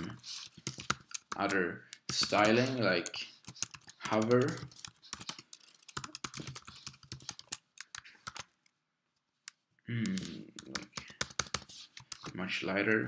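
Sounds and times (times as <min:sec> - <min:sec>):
keyboard typing: 0:00.0 - 0:08.6, 0:09.5 - 0:12.4.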